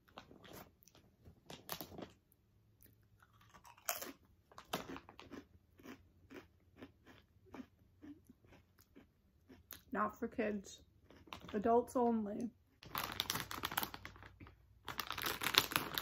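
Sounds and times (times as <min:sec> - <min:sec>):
person chewing crisp chips: 0:00.0 - 0:10.2, 0:10.8 - 0:11.6, 0:12.6 - 0:16.0.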